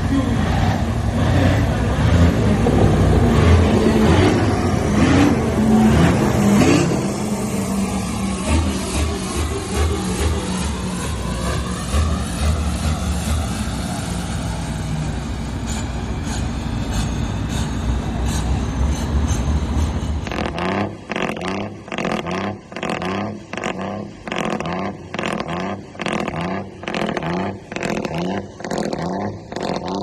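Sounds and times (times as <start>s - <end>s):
heavy truck engine pulsing: 0.0s - 30.0s.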